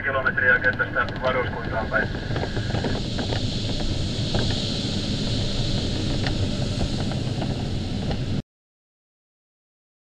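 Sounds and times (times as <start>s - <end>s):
airflow noise in glider cockpit: 0.0s - 8.4s.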